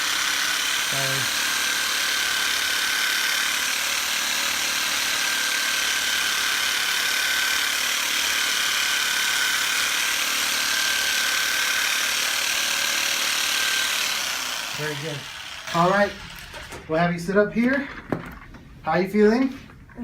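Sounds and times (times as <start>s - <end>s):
power drill whining: 0.0s - 17.0s.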